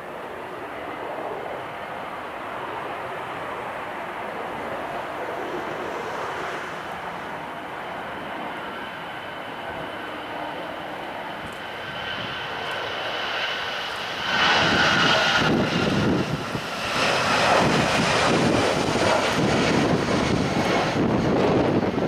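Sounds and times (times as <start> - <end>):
aircraft rushing noise: 0.0 - 22.0
airliner engines whining: 0.0 - 22.0.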